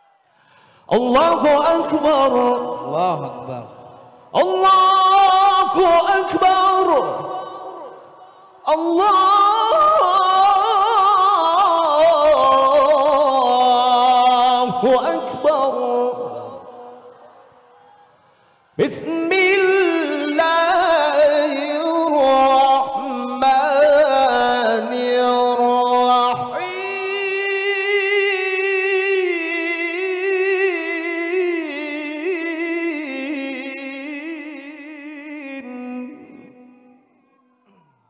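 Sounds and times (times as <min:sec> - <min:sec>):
man reciting melodically into microphone: 0:00.4 - 0:17.4, 0:18.8 - 0:38.0.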